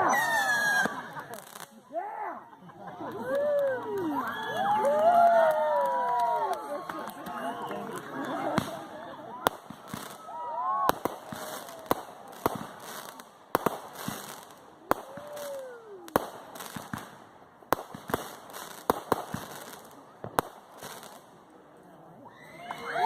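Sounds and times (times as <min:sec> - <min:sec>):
fireworks bangs: 0:00.0 - 0:01.9, 0:03.1 - 0:21.4.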